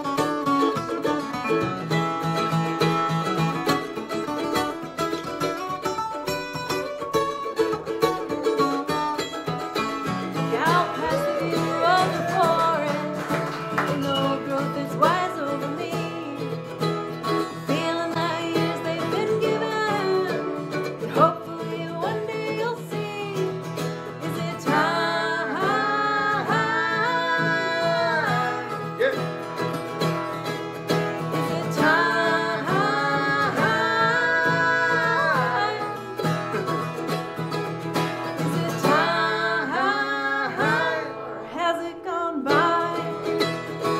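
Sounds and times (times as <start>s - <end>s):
acoustic string band playing: 0.0s - 22.8s, 23.4s - 41.6s.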